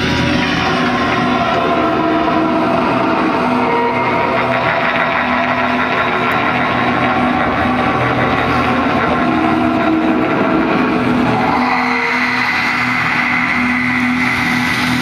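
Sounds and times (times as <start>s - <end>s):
ambient music over loudspeakers: 0.0s - 15.0s.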